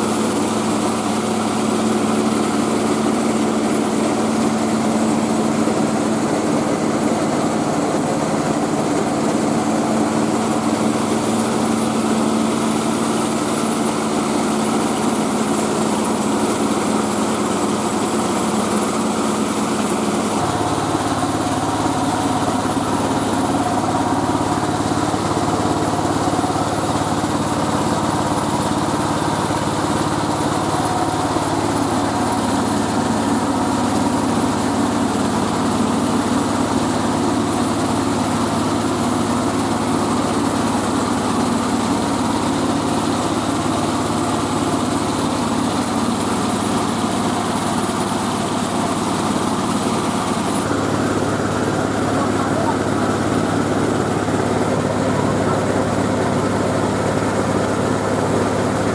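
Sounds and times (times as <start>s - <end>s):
milling machine engine running: 0.0s - 58.9s.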